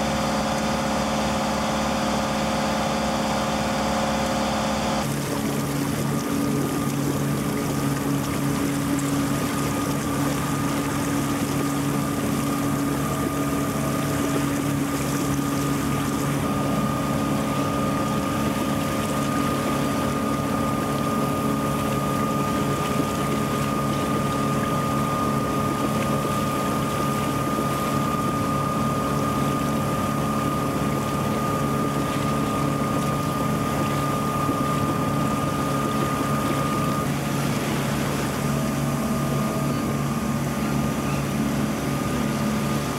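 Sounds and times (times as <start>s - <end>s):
boat engine droning: 0.0s - 42.9s
water rushing along hull: 0.0s - 42.9s.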